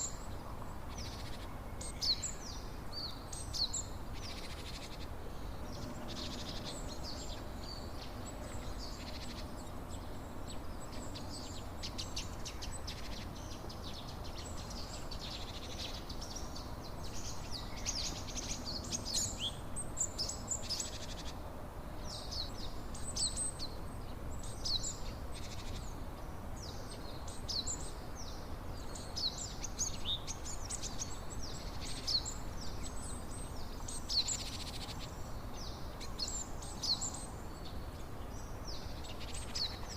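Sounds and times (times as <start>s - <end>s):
low rushing background noise: 0.0s - 39.9s
songbirds chirping: 0.0s - 39.9s.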